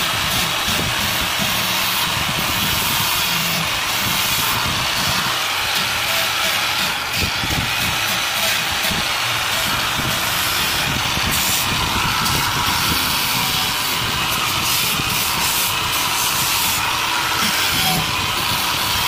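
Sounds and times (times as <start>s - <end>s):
disc sander grinding metal: 0.0s - 19.0s.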